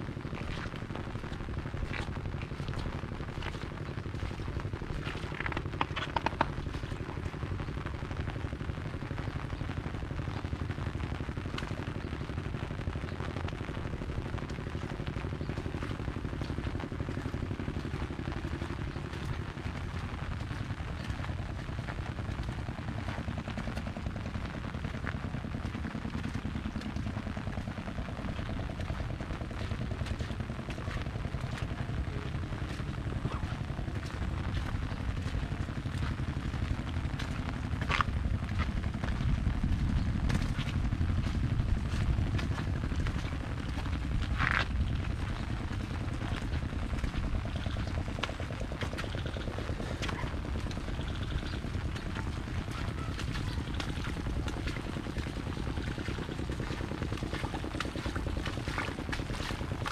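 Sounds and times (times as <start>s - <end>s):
rain pattering on an umbrella: 0.0s - 59.9s.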